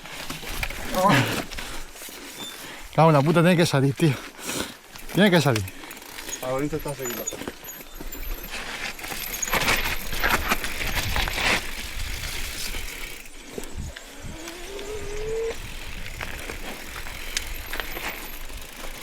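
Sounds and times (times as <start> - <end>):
mountain bike rattling over rocks: 0.0 - 19.0.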